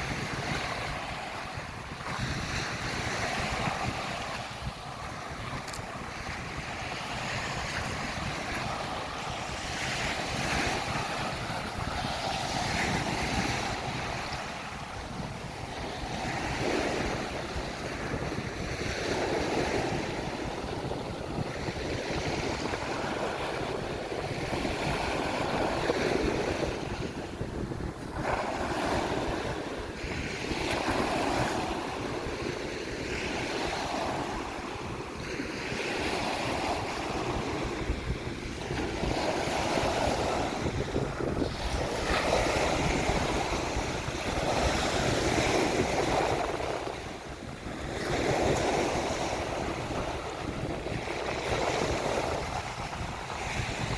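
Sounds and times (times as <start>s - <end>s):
small waves washing on beach: 0.0s - 53.9s
wind buffeting microphone: 0.0s - 53.9s.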